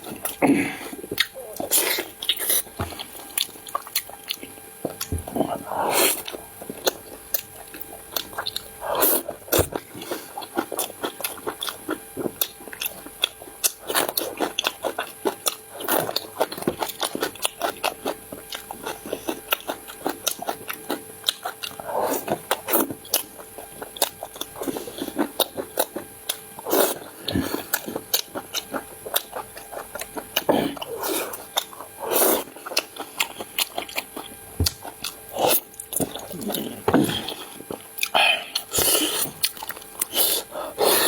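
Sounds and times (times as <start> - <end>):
person chewing food: 0.0 - 41.0.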